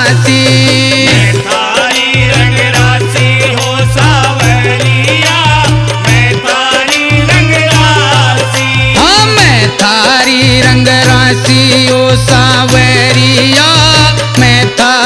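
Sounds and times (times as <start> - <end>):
steady percussion: 0.0 - 15.0.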